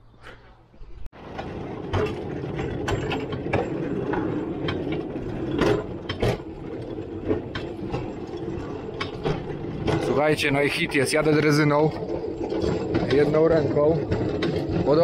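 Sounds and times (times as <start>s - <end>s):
rail draisine gear rattling: 1.2s - 15.0s.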